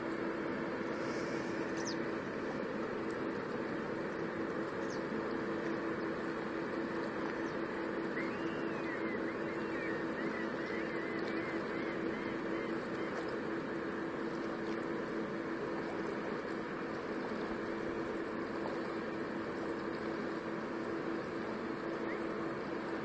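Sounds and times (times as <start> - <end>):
distant boat diesel engine drone: 0.0 - 23.0.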